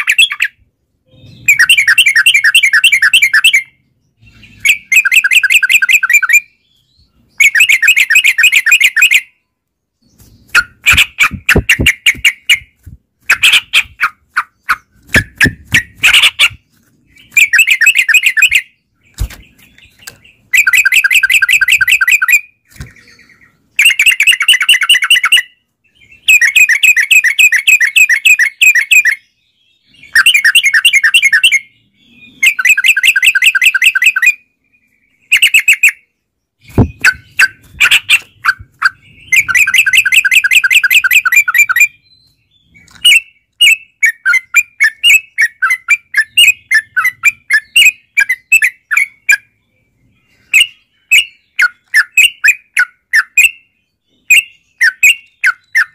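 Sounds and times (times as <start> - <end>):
bird singing rolling phrases: 0.0 - 55.9.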